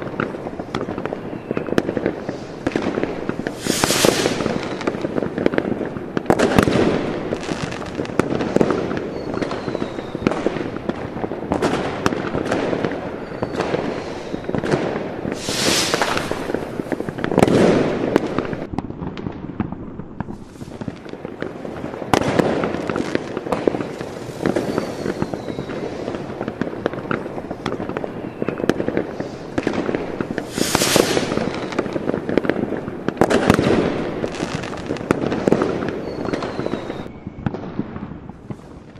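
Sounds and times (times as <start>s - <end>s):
fireworks hissing: 0.0s - 10.8s, 11.7s - 18.7s, 20.3s - 37.1s
firecrackers banging and crackling: 0.0s - 38.9s.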